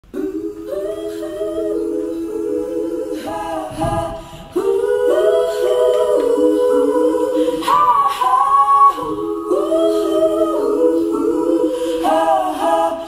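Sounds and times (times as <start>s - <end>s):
a cappella choir singing chords: 0.0s - 13.0s.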